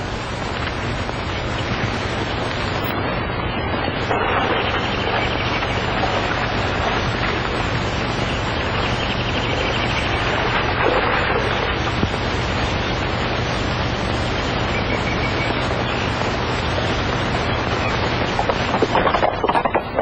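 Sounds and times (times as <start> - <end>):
film soundtrack hiss and hum: 0.0 - 20.0
river water rushing: 0.0 - 20.0.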